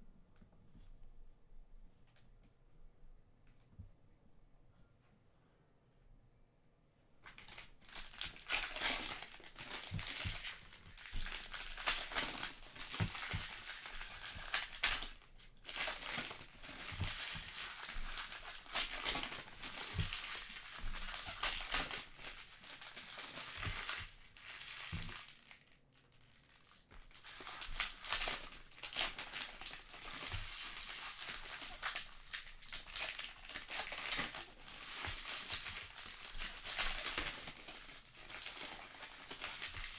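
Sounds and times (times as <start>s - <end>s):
plastic wrapping crinkling: 7.2s - 39.9s.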